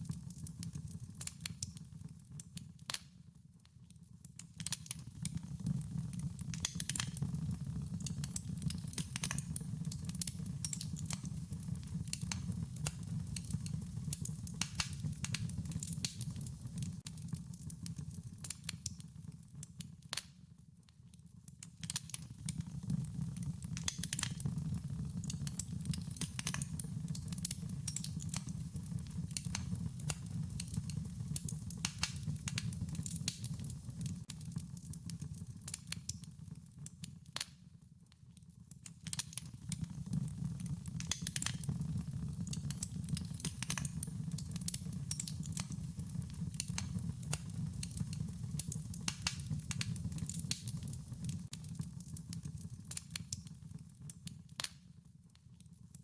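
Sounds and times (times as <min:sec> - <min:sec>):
wood fire crackling: 0:00.0 - 0:20.4, 0:21.3 - 0:37.6, 0:38.8 - 0:54.8.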